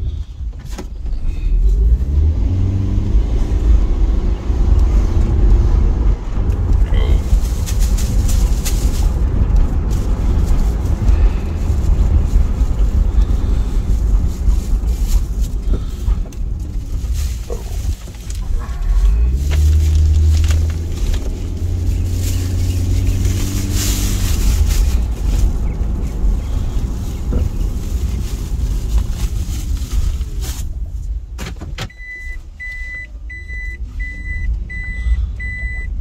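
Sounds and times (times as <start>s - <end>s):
road rumble: 0.0s - 36.0s
vehicle engine: 0.0s - 36.0s.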